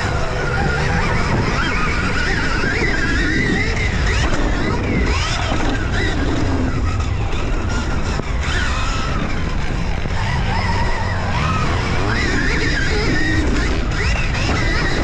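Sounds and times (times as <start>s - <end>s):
dirt bike engine revving: 0.0s - 15.0s
wind buffeting microphone: 0.0s - 15.0s.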